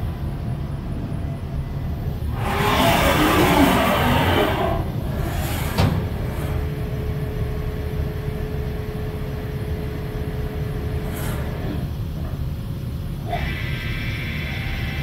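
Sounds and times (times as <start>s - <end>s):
low machine hum: 0.0s - 15.0s
steady machine whine: 0.0s - 15.0s.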